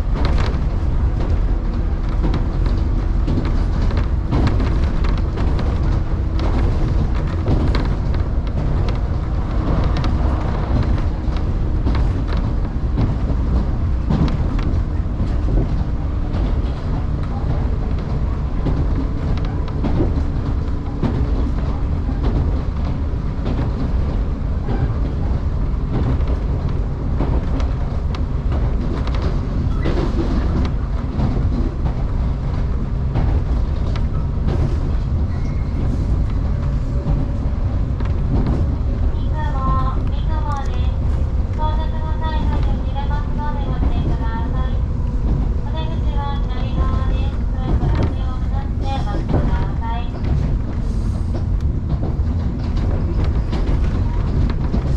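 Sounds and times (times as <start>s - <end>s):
train interior rumble: 0.0s - 54.9s
wheels clicking over rails: 0.0s - 54.9s.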